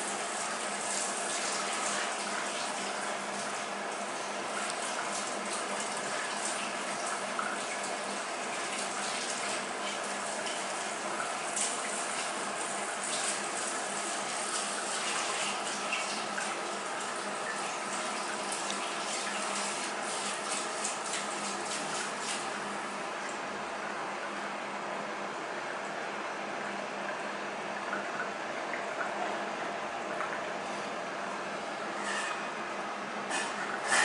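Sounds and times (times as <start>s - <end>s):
circulating water splashing: 0.0s - 24.0s, 25.6s - 34.0s.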